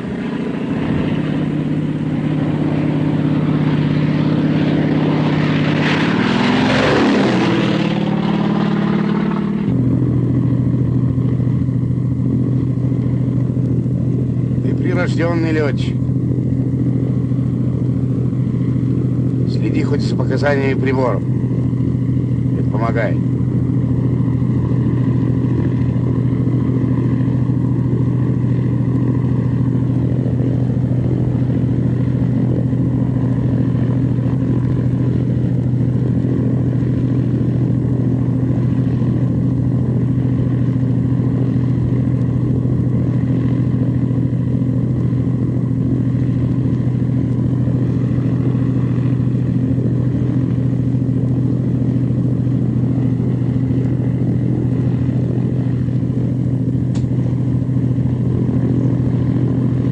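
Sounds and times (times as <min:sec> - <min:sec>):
small aircraft engine droning: 0:00.0 - 0:59.9.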